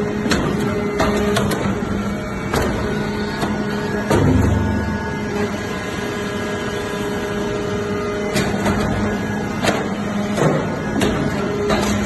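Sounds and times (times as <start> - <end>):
press mechanical hum: 0.0 - 12.0.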